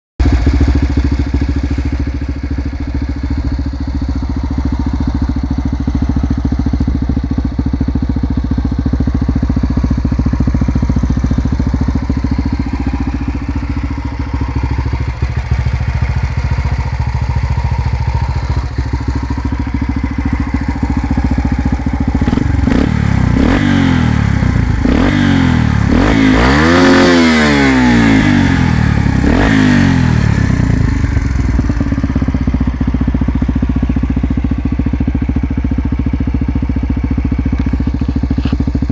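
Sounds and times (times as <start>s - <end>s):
motorcycle engine idling and revving: 0.2s - 38.9s.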